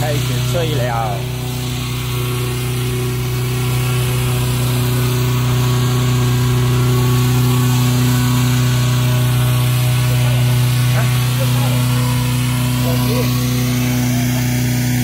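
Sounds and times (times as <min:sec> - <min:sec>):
petrol engine fan running: 0:00.0 - 0:15.0.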